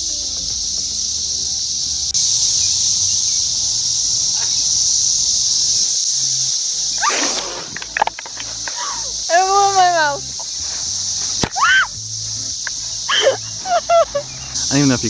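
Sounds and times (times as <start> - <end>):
cicadas droning buzz: 0.0 - 15.0.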